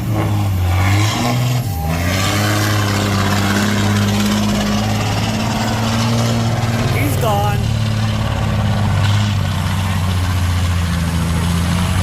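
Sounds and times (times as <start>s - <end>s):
truck engine running loud: 0.0s - 12.0s.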